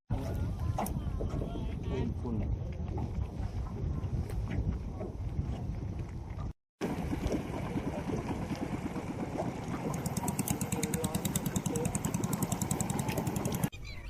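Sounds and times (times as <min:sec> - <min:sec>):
boat engine running: 0:00.1 - 0:13.7.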